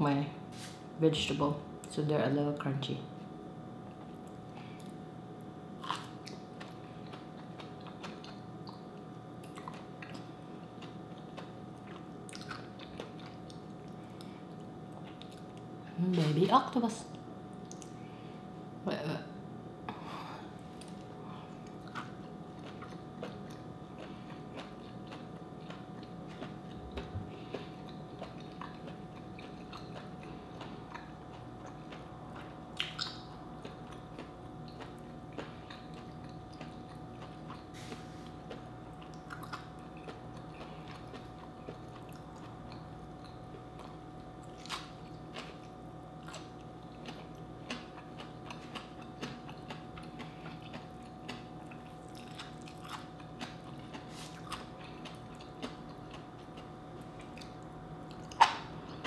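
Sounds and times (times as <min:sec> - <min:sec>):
close-miked chewing and crunching: 0:03.8 - 0:16.4, 0:17.1 - 0:18.0, 0:20.2 - 0:59.0.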